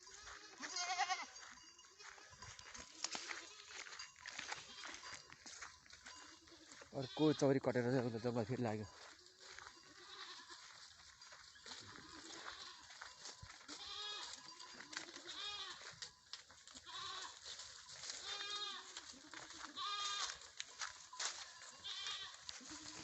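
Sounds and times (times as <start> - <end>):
goats bleating: 0.1 - 1.4, 2.0 - 5.2, 6.1 - 8.4, 9.1 - 10.9, 11.8 - 16.0, 16.7 - 23.0.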